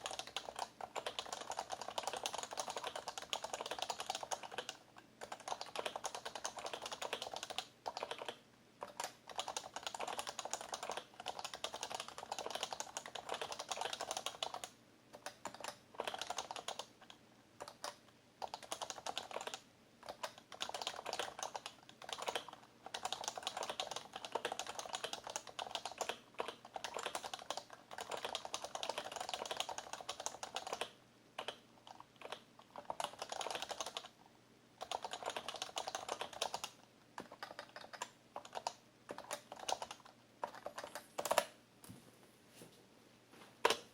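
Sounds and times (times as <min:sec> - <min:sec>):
fast keyboard typing: 0:00.0 - 0:34.2, 0:34.8 - 0:41.5.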